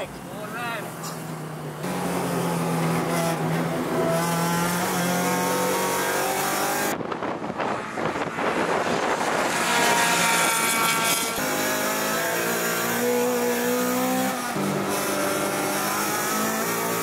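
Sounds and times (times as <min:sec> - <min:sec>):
car accelerating past trackside: 0:01.0 - 0:17.0
car engine revving hard: 0:01.8 - 0:07.0, 0:07.9 - 0:17.0.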